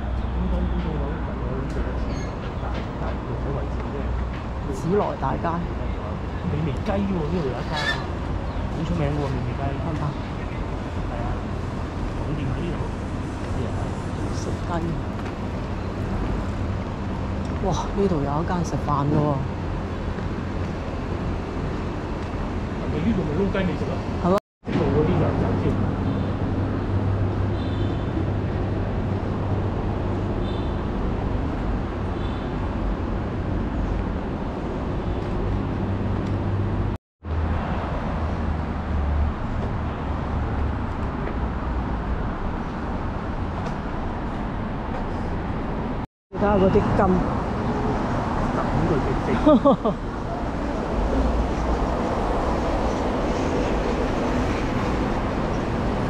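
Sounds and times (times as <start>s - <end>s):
city street traffic: 0.0s - 56.0s
vehicles passing: 0.0s - 56.0s.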